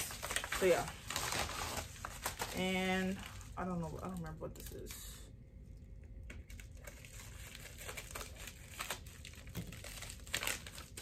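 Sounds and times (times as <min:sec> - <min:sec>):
plastic packet crinkling: 0:00.0 - 0:04.8, 0:06.4 - 0:11.0.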